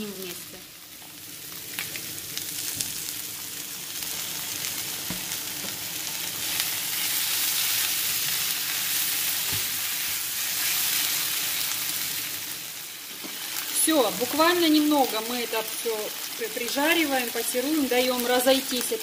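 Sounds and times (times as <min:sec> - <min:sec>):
food sizzling in a hot pan: 0:00.0 - 0:19.0.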